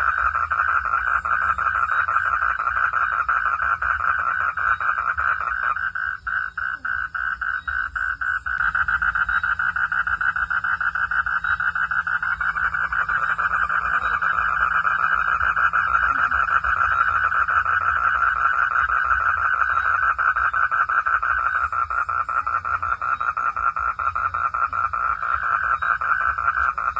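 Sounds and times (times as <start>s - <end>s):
frogs calling in chorus: 0.0s - 26.9s.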